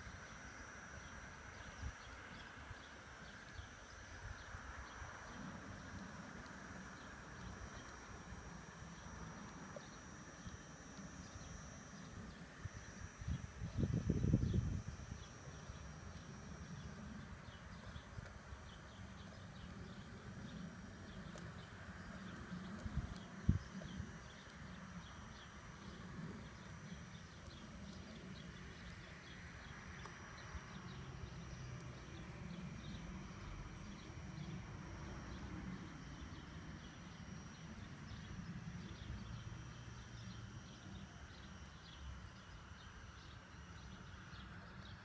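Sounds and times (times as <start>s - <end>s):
faint high whine: 0.0s - 45.0s
model train motor hum: 0.0s - 45.0s.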